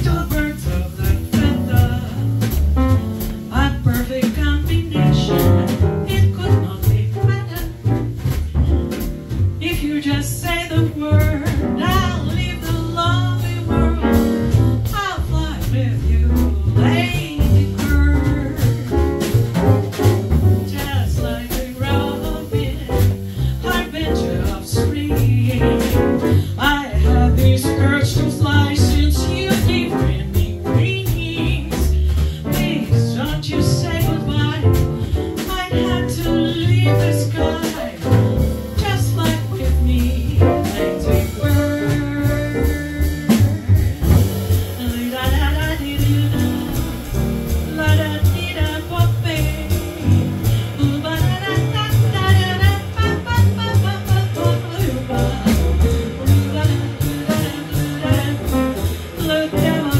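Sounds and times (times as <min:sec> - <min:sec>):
drum kit with cymbals: 0:00.0 - 0:59.9
piano: 0:00.0 - 0:59.9
upright double bass: 0:00.0 - 0:59.9.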